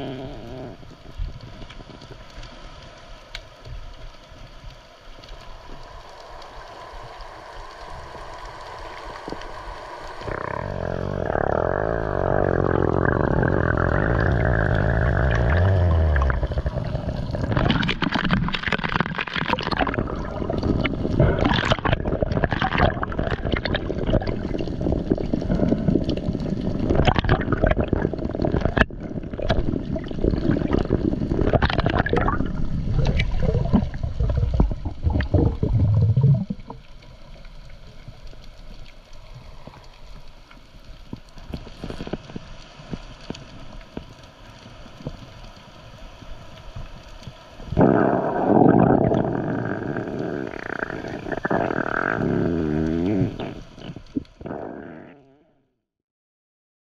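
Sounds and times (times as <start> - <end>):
underwater hiss: 0.0 - 1.1, 5.4 - 26.6, 30.0 - 55.1
faint clicks underwater: 0.0 - 55.3
water sloshing and gurgling: 0.0 - 55.3.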